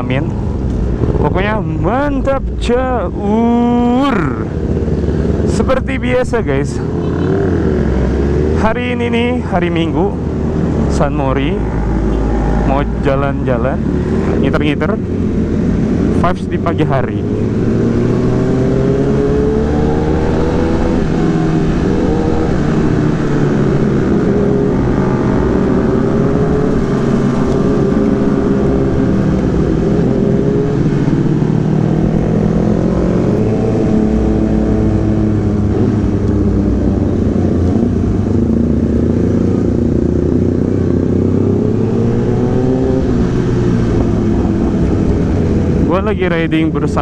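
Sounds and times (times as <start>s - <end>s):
wind noise: 0.0s - 8.6s, 9.4s - 47.0s
motorcycle engine revving: 0.0s - 47.0s.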